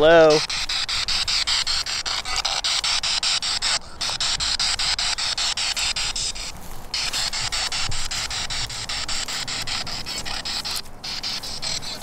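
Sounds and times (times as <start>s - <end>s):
chopped radio static hiss: 0.0s - 12.0s.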